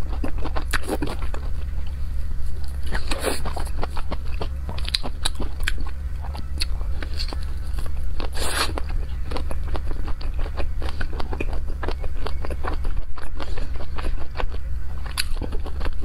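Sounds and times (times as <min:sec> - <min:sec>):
wet chewing: 0:00.0 - 0:16.0
crunchy bite: 0:02.7 - 0:16.0.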